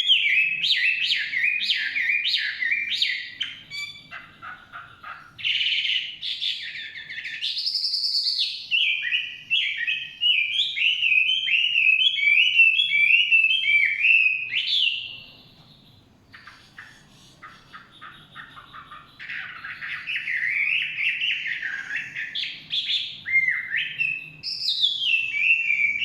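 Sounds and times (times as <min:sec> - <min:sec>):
songbird whistling song: 0:00.0 - 0:26.0.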